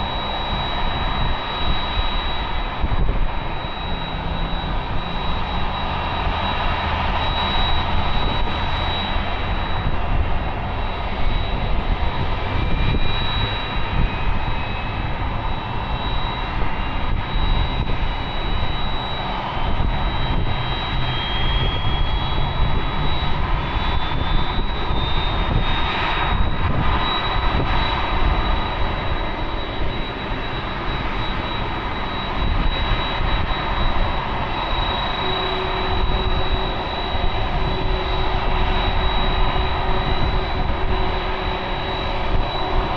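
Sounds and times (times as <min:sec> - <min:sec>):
jet engines roaring with high whine: 0:00.0 - 0:42.9
rising whine: 0:00.0 - 0:42.9.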